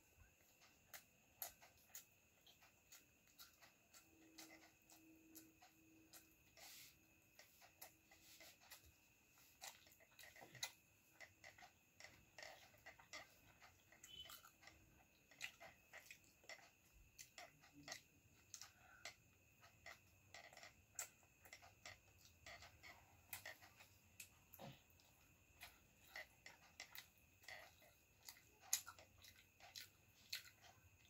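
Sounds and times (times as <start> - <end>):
person chewing food: 0.2 - 31.0.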